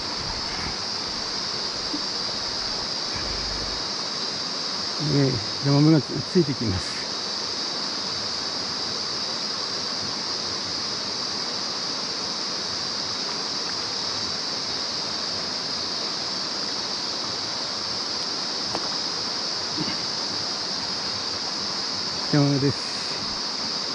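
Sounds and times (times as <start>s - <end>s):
stream rushing over rocks: 0.0s - 6.0s, 6.7s - 23.9s.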